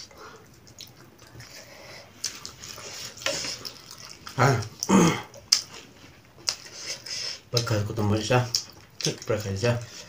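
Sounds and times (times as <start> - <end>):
chewing and mouth smacking: 0.0 - 7.8, 8.4 - 10.0.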